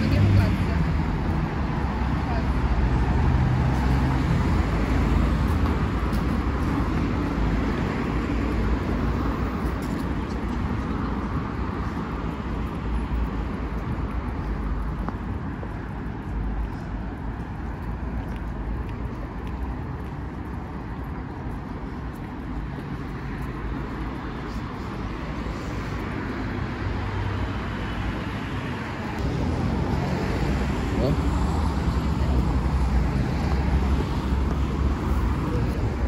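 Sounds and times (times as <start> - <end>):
low rumble of traffic: 0.0 - 36.0.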